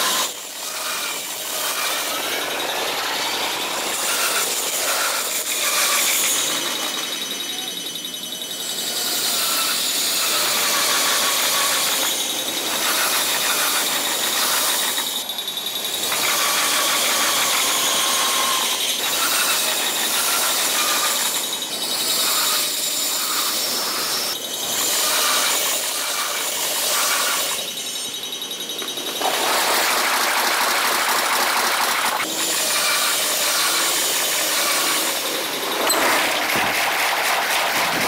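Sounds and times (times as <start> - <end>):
train wheels squealing on rails: 0.0 - 38.0.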